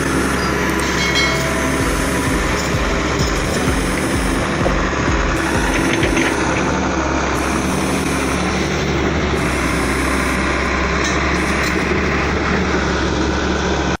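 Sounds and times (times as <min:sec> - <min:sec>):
mechanical clatter: 0:00.0 - 0:12.1
heavy machinery diesel engine: 0:00.0 - 0:14.0.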